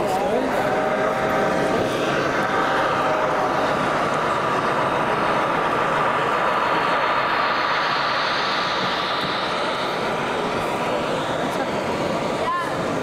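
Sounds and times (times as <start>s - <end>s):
busy hall noise: 0.0s - 13.0s
model train rolling rumble: 0.0s - 13.0s.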